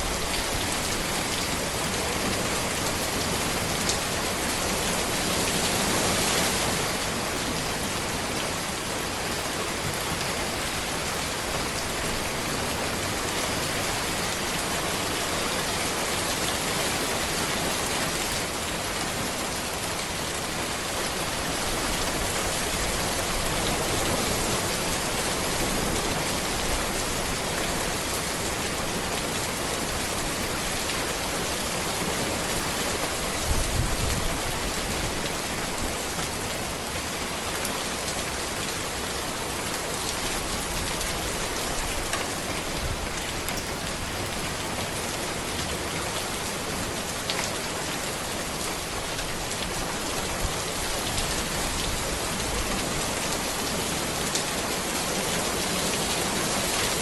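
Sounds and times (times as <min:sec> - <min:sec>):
rain on road and trees: 0:00.0 - 0:57.0.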